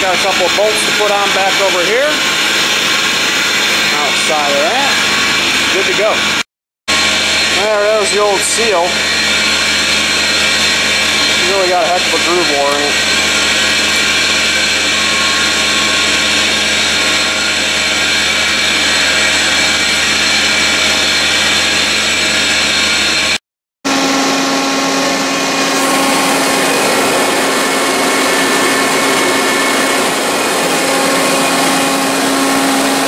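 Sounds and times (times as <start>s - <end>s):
air compressor humming: 0.0s - 33.0s.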